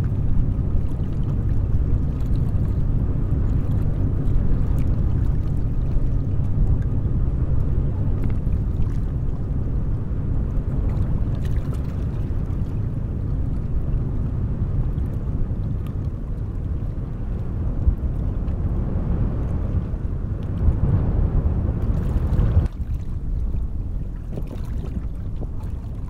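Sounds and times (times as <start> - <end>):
boat engine rumble: 0.0 - 26.0.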